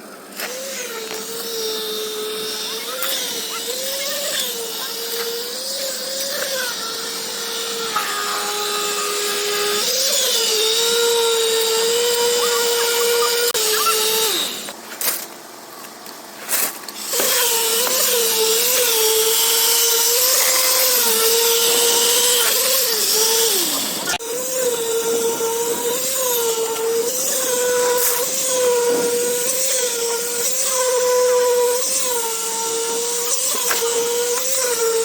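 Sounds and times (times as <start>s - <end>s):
power tool motor whining: 0.2s - 14.8s, 16.9s - 35.0s.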